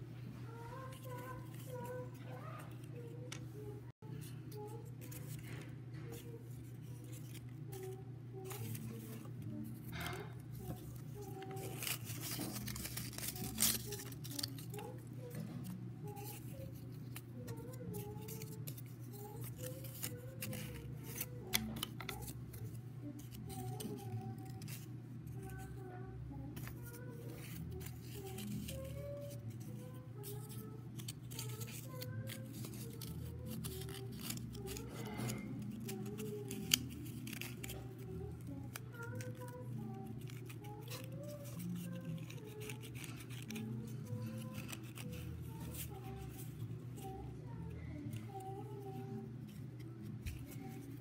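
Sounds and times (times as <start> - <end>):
soft background music: 0.0 - 51.0.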